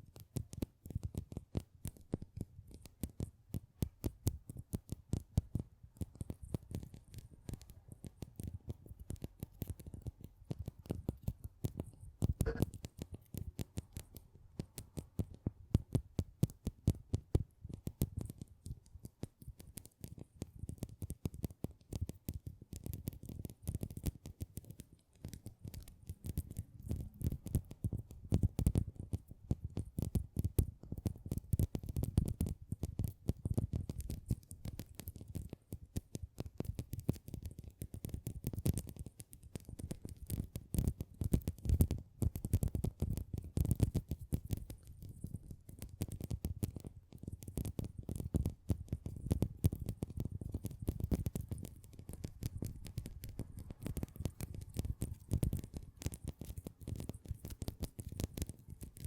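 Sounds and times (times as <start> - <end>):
small clicks and crackles: 0.0 - 59.0.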